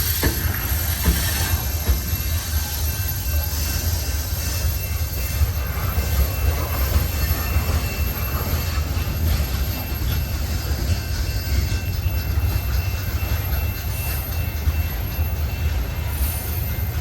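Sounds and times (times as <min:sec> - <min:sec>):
faint high wheel squeal: 0:00.0 - 0:17.0
train wheels rumbling on rails: 0:00.0 - 0:17.0.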